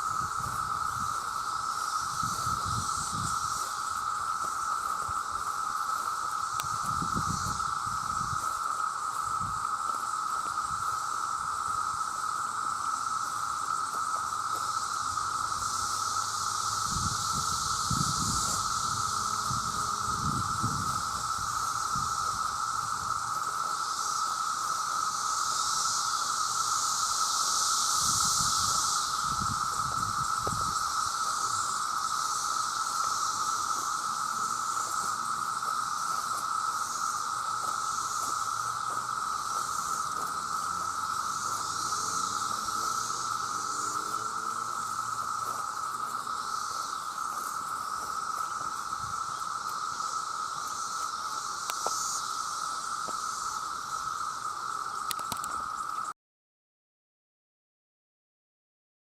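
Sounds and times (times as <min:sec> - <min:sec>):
cicadas chorus drone: 0:00.0 - 0:56.2.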